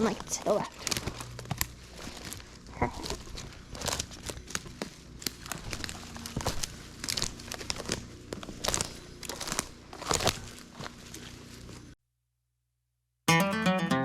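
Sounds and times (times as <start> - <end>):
footsteps through dry leaves: 0.0 - 12.0.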